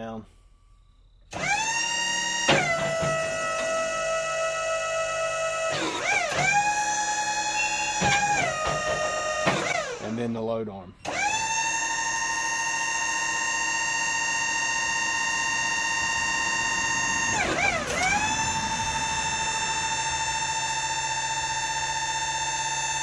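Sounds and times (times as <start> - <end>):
hydraulic pump whining: 1.3 - 23.0.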